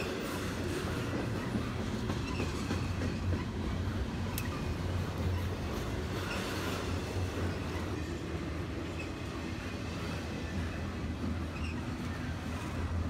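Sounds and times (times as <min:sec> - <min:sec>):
freight train wheels rumbling on rail: 0:00.0 - 0:13.0.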